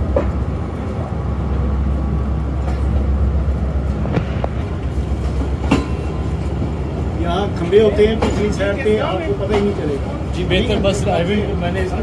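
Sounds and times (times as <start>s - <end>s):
train coaches rumbling: 0.0s - 12.0s.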